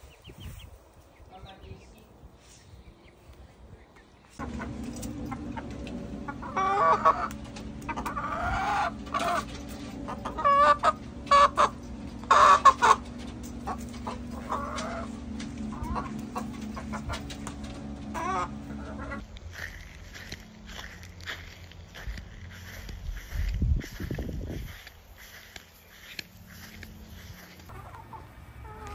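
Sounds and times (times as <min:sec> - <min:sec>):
hens clucking: 0:02.8 - 0:28.9
steady low hum: 0:02.8 - 0:28.9.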